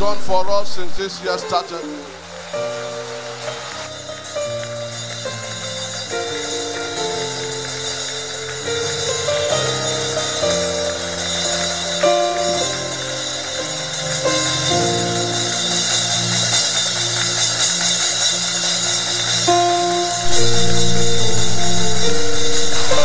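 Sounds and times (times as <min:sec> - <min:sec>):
sustained keyboard chords: 0:00.0 - 0:23.0
drums: 0:03.9 - 0:23.0.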